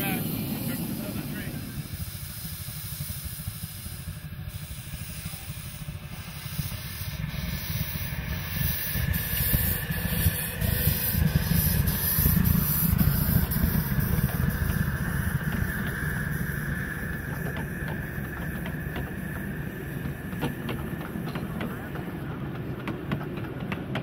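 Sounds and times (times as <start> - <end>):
steam hissing: 0.0 - 24.0
wheels rumbling on rails: 0.0 - 24.0.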